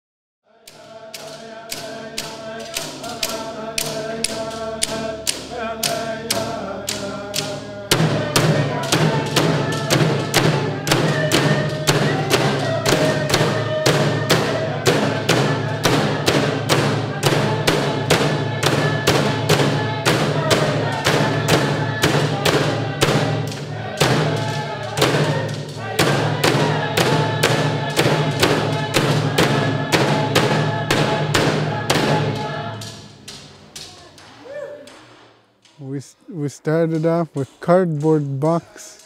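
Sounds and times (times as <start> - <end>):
frame drums struck with sticks: 0.7 - 35.9.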